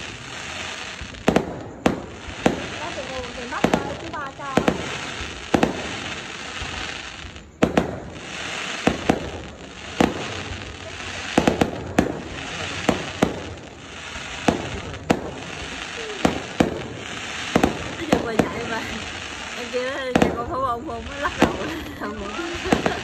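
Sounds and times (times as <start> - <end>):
fireworks bangs: 0.0 - 23.0
fireworks crackle and hiss: 0.0 - 23.0.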